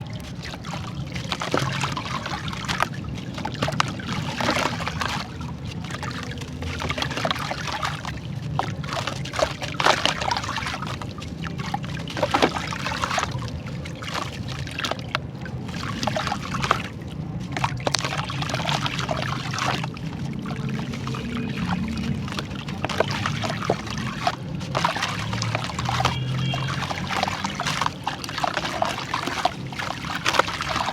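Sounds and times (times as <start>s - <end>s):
water trickling and splashing: 0.0s - 30.9s.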